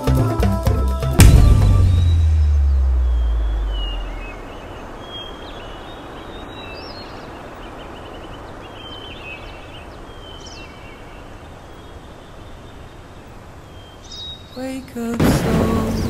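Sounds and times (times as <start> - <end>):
small birds chirping: 1.9 - 16.0
steady background hiss: 3.0 - 16.0.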